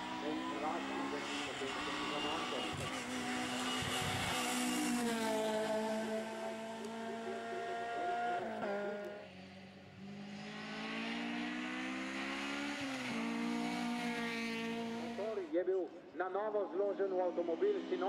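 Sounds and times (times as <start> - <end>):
race car engine revving high: 0.0 - 15.5.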